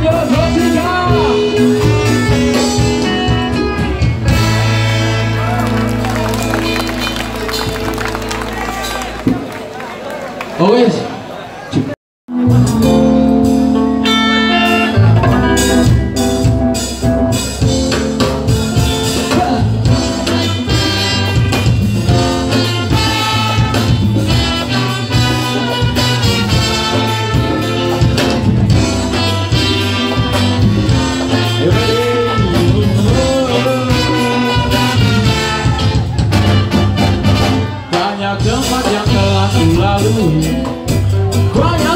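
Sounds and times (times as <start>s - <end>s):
ska band with horns playing: 0.0s - 9.8s, 12.3s - 41.9s.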